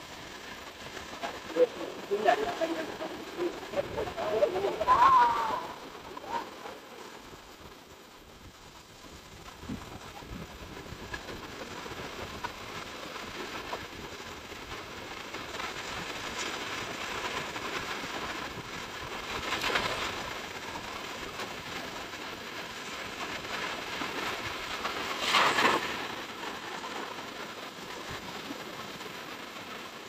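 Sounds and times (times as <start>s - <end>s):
waves on a sandy shore: 0.0s - 30.0s.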